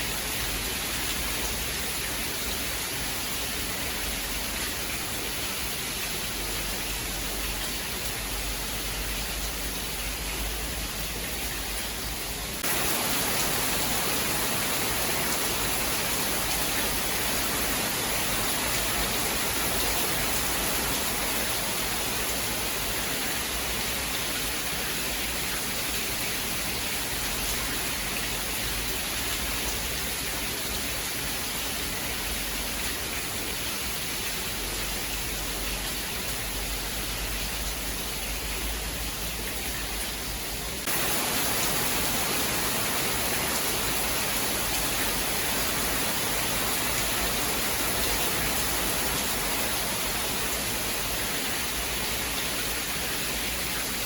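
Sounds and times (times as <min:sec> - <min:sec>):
heavy rain hissing: 0:00.0 - 0:31.8, 0:32.4 - 0:54.0.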